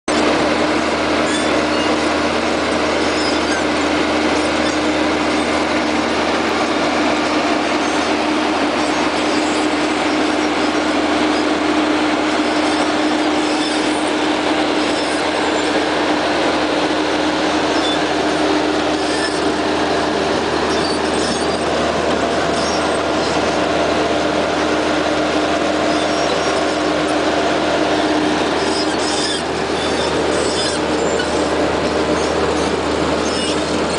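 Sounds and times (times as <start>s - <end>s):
diesel engine running: 0.0s - 33.9s
crawler tracks clattering: 1.3s - 33.9s.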